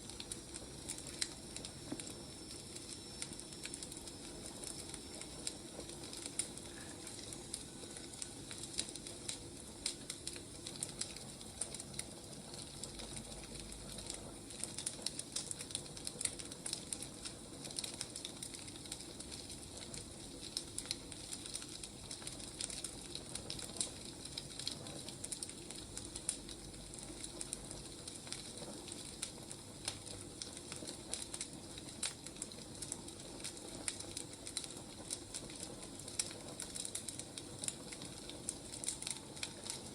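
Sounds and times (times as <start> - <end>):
steady hiss: 0.0 - 39.9
wood fire crackling: 0.0 - 39.9.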